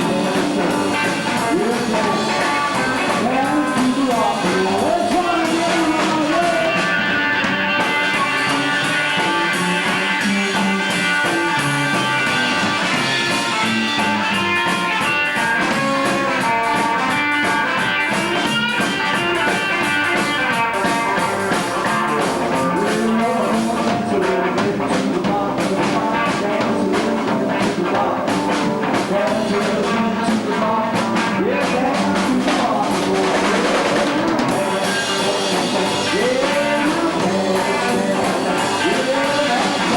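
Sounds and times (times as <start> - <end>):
rockabilly band playing: 0.0 - 39.9.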